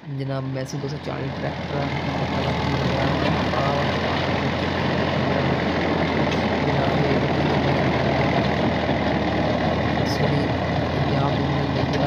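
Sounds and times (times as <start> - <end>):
tractor diesel engine running: 0.0 - 12.0
rotavator churning soil: 1.1 - 12.0.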